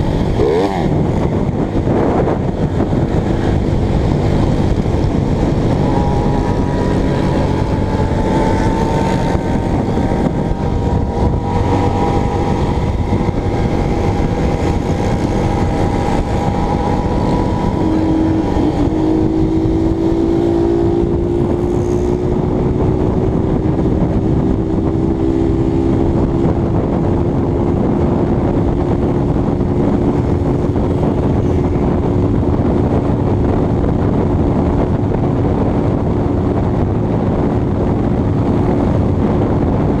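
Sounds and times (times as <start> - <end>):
motorcycle engine droning: 0.0 - 40.0
wind on microphone: 0.0 - 40.0.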